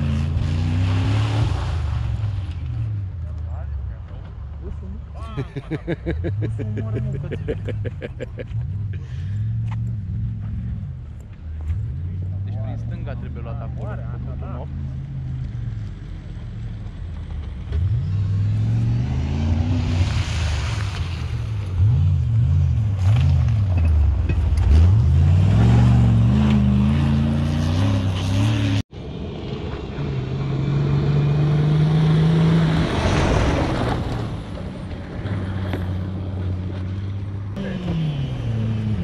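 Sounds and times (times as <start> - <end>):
off-road engines revving: 0.0 - 39.0.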